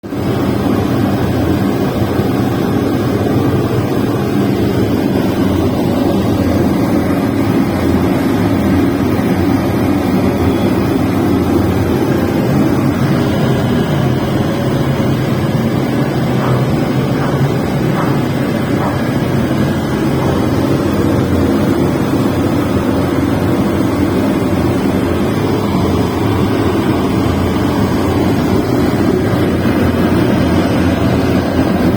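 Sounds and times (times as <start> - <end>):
industrial burner flame and blower: 0.0 - 31.9.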